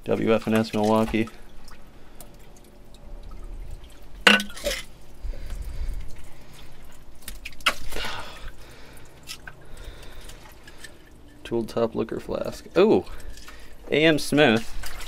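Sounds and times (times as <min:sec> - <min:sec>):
water dripping and sloshing: 0:00.0 - 0:15.0.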